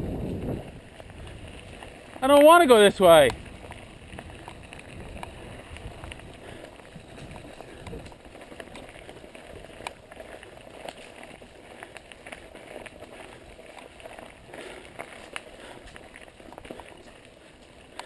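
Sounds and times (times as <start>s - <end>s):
bike clicking and rattling: 0.0s - 18.0s
tyres crunching over rock: 0.3s - 18.0s.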